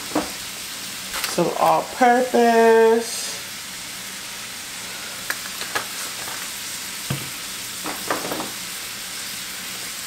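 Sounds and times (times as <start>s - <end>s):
steak sizzling in a skillet: 0.0s - 10.0s.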